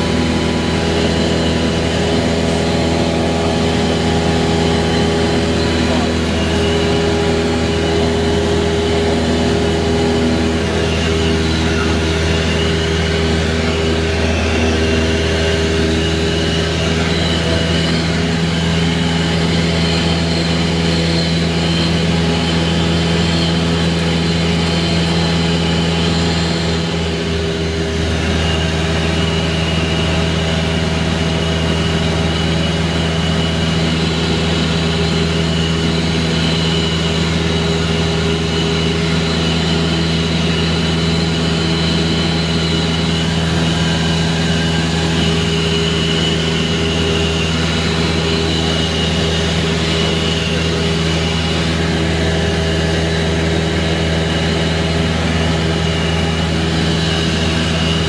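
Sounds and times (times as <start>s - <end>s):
small plane engine drone: 0.0s - 58.0s.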